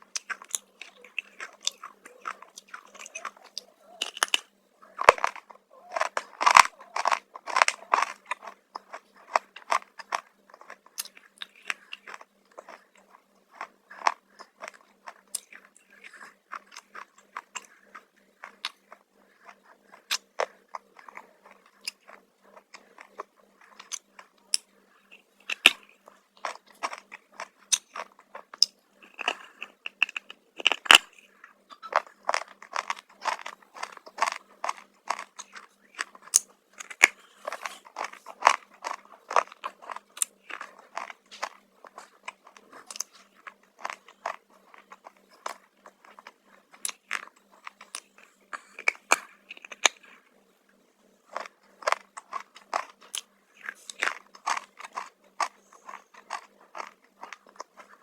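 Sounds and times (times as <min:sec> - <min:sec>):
crunching chips: 0:00.0 - 0:50.3, 0:51.2 - 0:58.0
chewing: 0:00.0 - 0:58.0.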